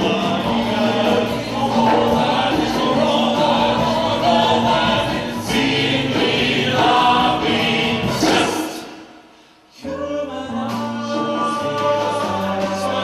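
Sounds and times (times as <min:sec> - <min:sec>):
vocal ensemble singing chords: 0:00.0 - 0:13.0.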